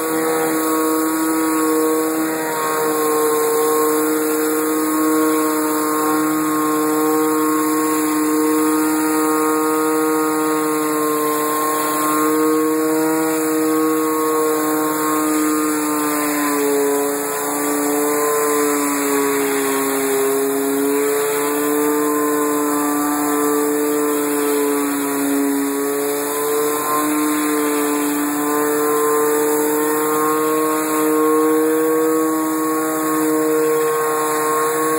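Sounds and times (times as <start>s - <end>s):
pressure washer engine running: 0.0s - 34.9s
water hissing on concrete: 0.0s - 34.9s.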